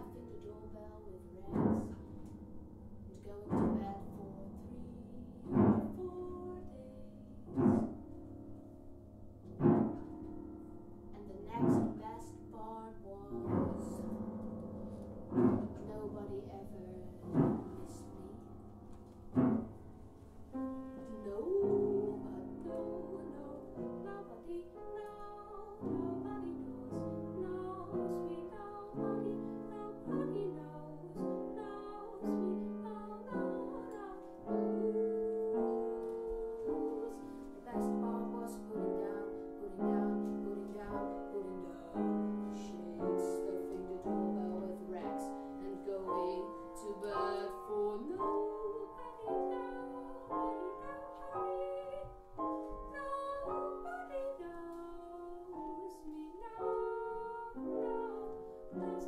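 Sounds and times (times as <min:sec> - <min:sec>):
woman singing: 0:00.0 - 0:02.3, 0:03.1 - 0:08.0, 0:11.1 - 0:14.3, 0:15.4 - 0:18.6, 0:21.0 - 0:59.0
piano chords: 0:00.0 - 0:59.0.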